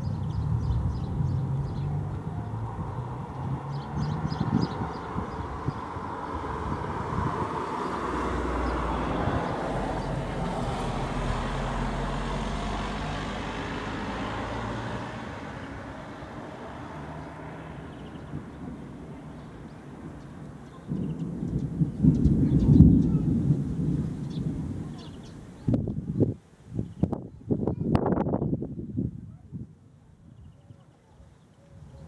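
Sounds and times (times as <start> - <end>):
rolling thunder: 0.0 - 26.3.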